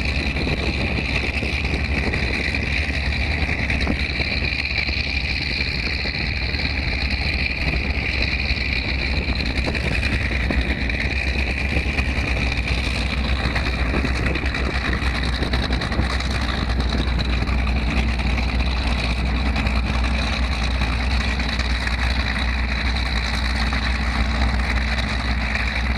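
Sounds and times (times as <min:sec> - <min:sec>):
boat engines rumbling: 0:00.0 - 0:25.9
high whine: 0:00.0 - 0:25.9.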